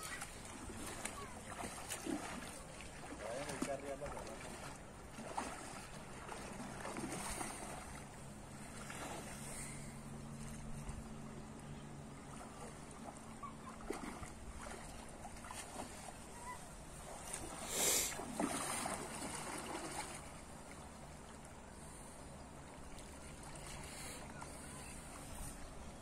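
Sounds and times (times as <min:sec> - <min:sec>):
cast net hauled through water: 0:00.0 - 0:26.0
shallow river water splashing: 0:00.0 - 0:26.0.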